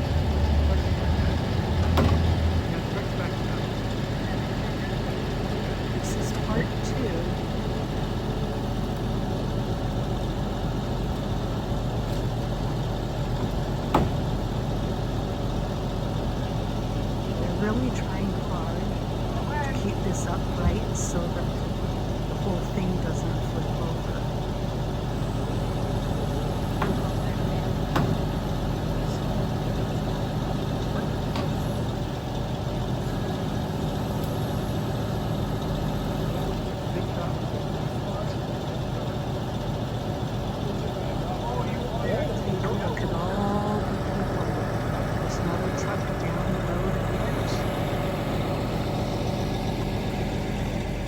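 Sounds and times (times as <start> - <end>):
truck engine idling: 0.0 - 51.0.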